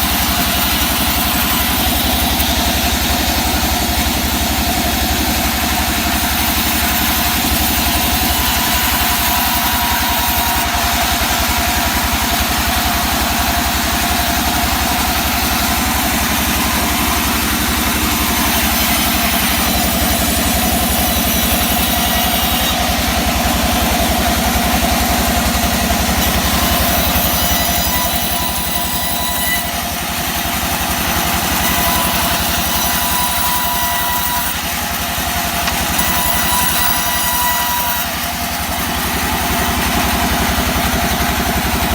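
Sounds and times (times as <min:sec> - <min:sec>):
sawmill engine drone: 0:00.0 - 0:41.9.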